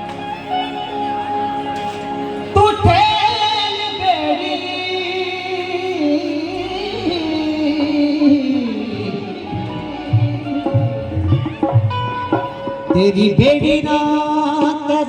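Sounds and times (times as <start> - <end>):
musical accompaniment: 0.0 - 15.0
boy singing devotional song: 2.5 - 15.0.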